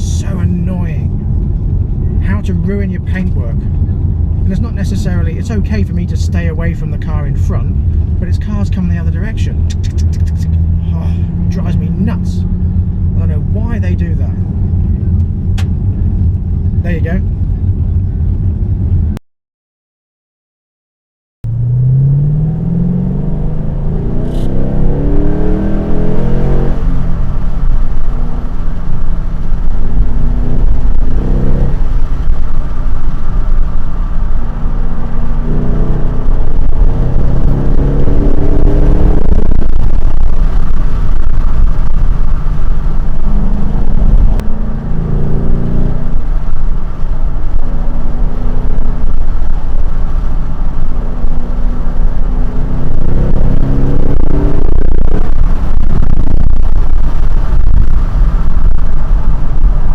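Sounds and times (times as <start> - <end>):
car engine accelerating: 0.0 - 19.2, 21.4 - 59.9
road noise: 0.0 - 19.2, 21.4 - 59.9.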